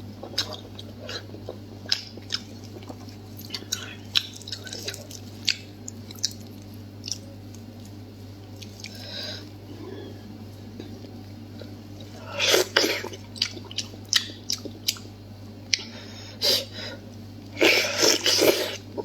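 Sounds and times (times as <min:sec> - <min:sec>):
close chewing of soft food: 0:00.0 - 0:19.0.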